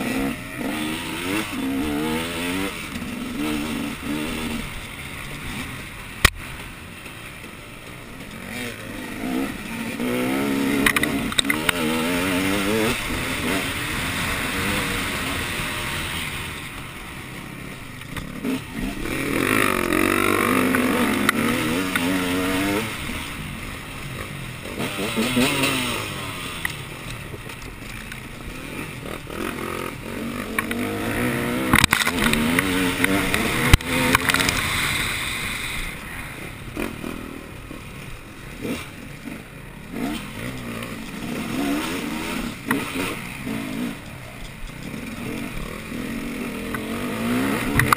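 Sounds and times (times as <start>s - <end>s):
engine revving: 0.0s - 6.4s, 8.4s - 16.8s, 18.1s - 26.8s, 27.4s - 36.0s, 38.5s - 47.9s.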